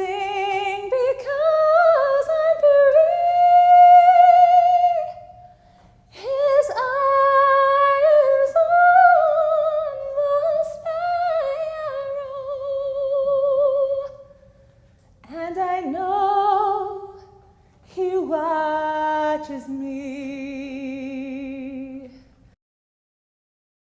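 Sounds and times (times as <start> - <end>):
woman singing with vibrato: 0.0 - 14.6, 15.2 - 22.3.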